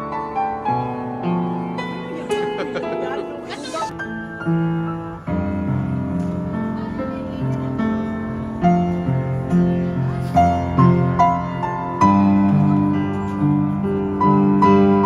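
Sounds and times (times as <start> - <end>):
slow piano tune: 0.0 - 15.0.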